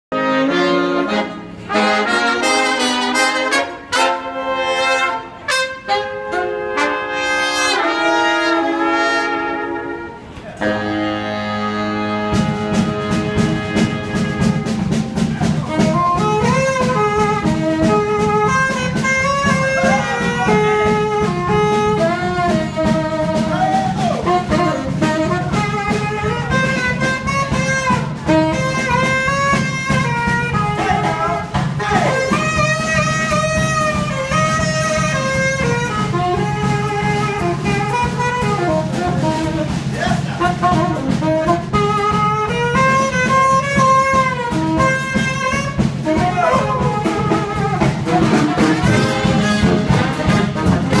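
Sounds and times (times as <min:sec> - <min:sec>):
brass band playing: 0:00.1 - 0:51.0.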